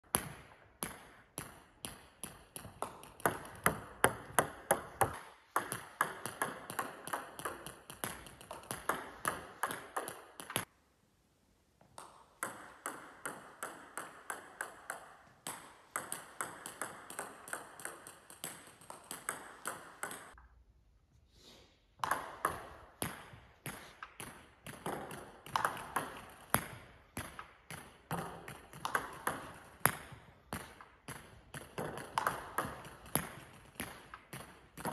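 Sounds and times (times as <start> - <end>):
table tennis balls clicking: 0.8 - 10.7, 11.8 - 20.4, 22.0 - 34.9.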